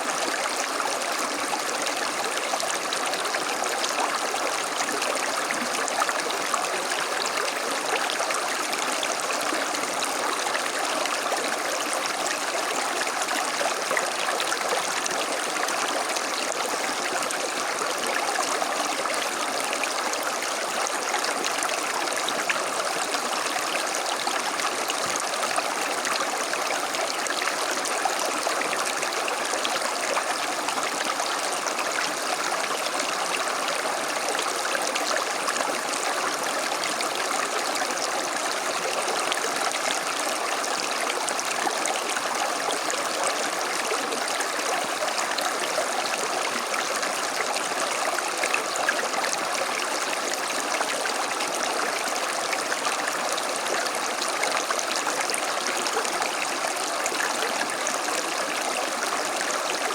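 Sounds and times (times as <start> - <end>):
creek water rushing: 0.0 - 59.9.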